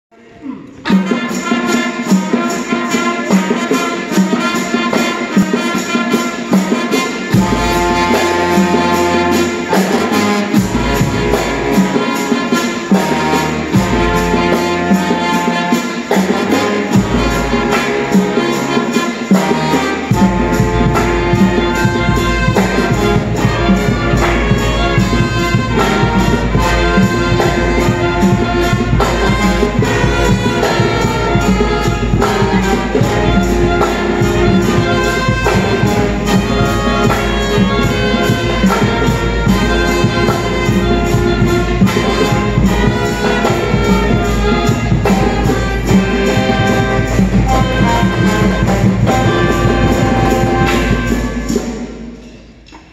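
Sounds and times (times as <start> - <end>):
wind band playing lively piece: 0.2 - 52.9
percussion beat: 0.4 - 52.9.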